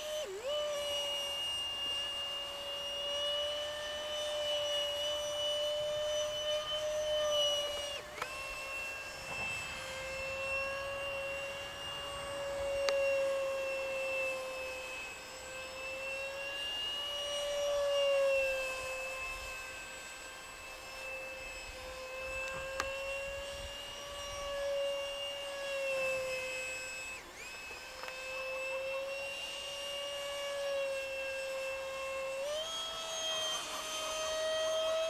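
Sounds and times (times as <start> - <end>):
model jet fan whining: 0.0 - 35.0.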